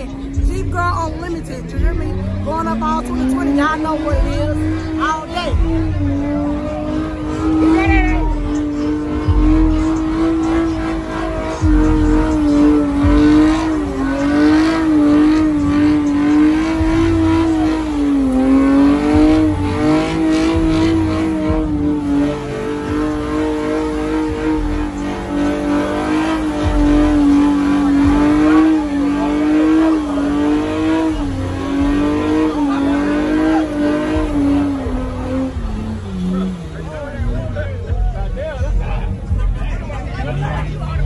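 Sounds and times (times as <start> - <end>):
car engine revving high: 0.0 - 41.0.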